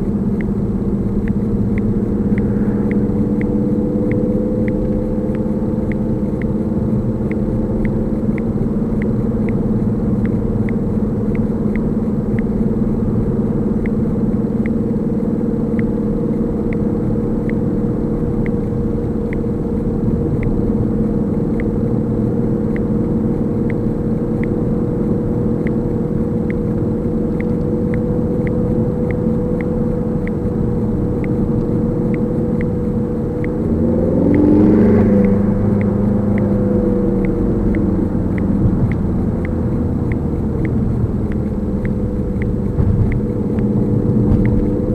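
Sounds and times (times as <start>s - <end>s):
car engine and road noise: 0.0s - 44.9s
dashcam clicking: 0.0s - 44.9s.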